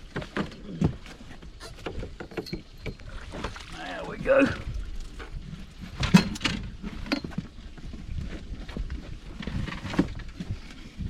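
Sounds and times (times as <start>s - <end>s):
knocks and thumps in a boat: 0.0s - 11.0s.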